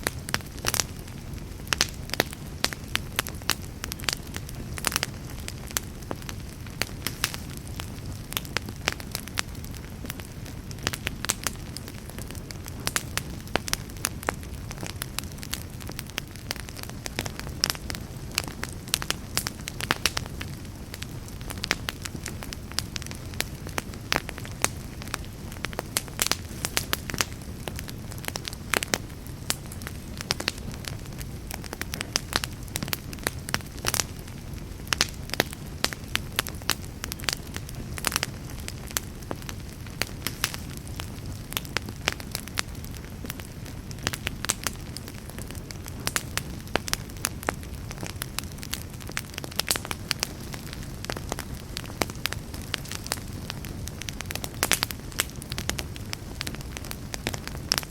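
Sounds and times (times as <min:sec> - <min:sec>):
low rumble of flames: 0:00.0 - 0:57.9
wood fire crackling and popping: 0:00.0 - 0:57.9.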